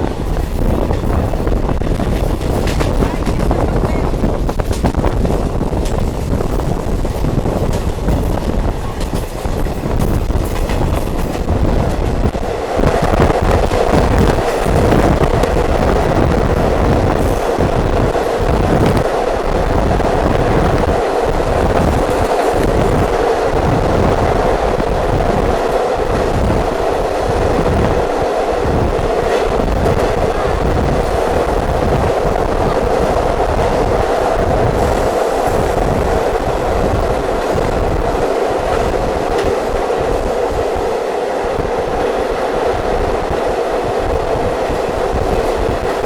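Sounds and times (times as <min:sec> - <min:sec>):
diesel train running on track: 0:00.0 - 0:46.0.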